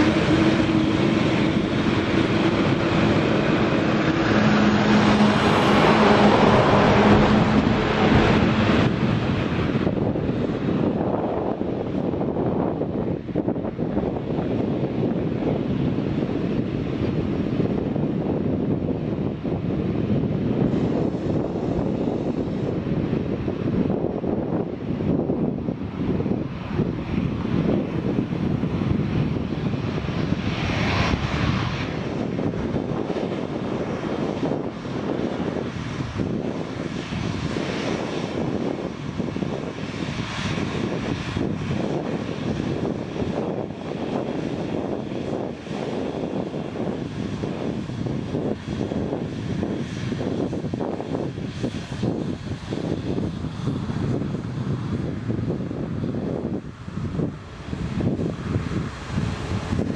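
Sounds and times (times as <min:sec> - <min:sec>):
jet engine whine: 0:00.0 - 0:59.9
jet engines drone: 0:00.0 - 0:59.9.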